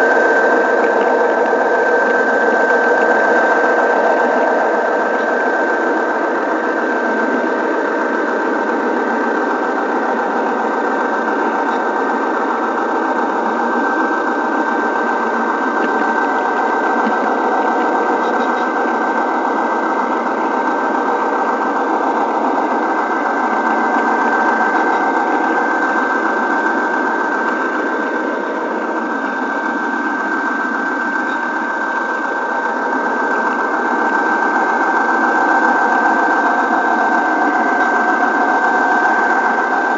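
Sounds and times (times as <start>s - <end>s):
high-pitched whine: 0.0s - 39.9s
model train motor whirring: 0.0s - 39.9s.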